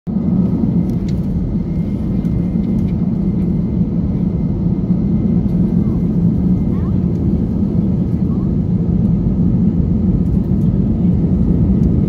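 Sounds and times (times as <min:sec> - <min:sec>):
jet engine cabin drone: 0:00.1 - 0:12.0.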